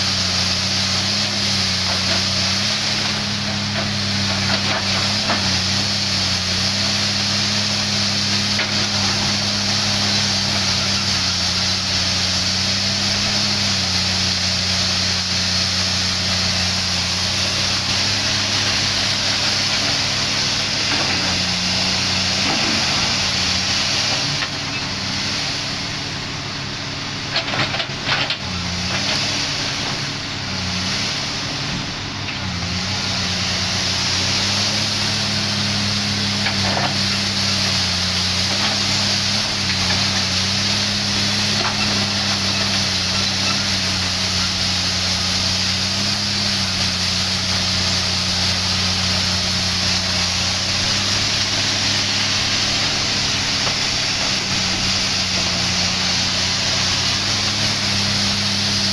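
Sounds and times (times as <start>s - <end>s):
excavator diesel engine under load: 0.0s - 58.9s
steady hiss: 0.0s - 58.9s.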